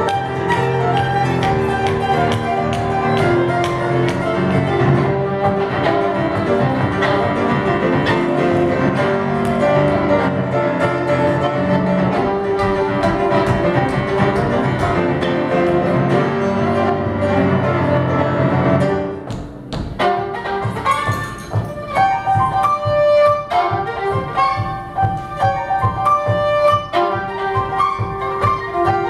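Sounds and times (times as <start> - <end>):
fiddle: 0.0 - 19.2, 19.8 - 29.0
grand piano: 0.0 - 29.0.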